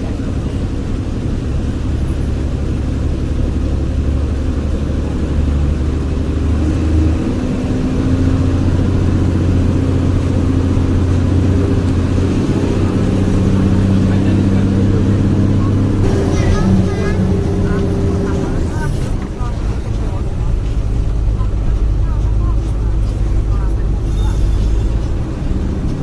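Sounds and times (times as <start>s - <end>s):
bus engine growling: 0.0s - 26.0s.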